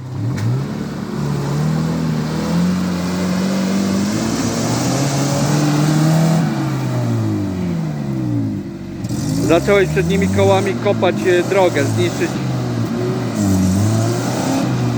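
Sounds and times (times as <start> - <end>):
off-road engine revving hard: 0.0 - 14.9.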